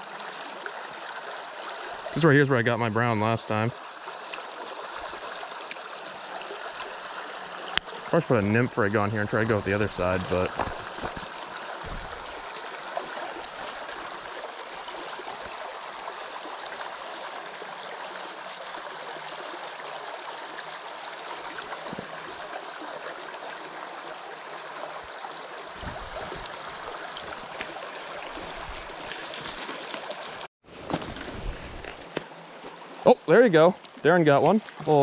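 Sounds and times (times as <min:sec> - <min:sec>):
stream rippling over stones: 0:00.0 - 0:35.0.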